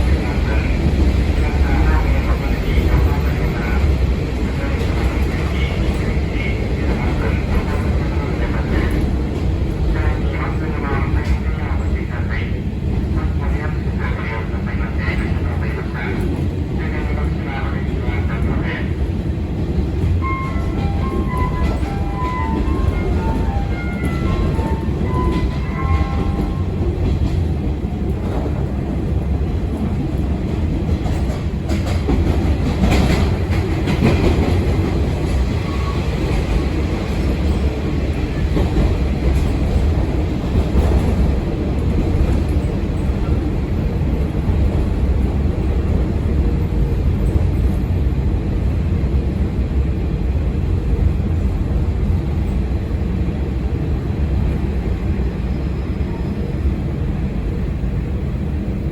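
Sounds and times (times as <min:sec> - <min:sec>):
diesel railcar rumbling: 0:00.0 - 0:58.9.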